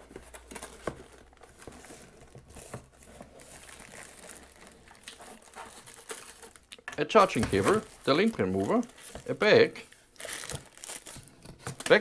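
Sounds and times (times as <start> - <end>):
cardboard and plastic bag rustling: 0.0 - 12.0.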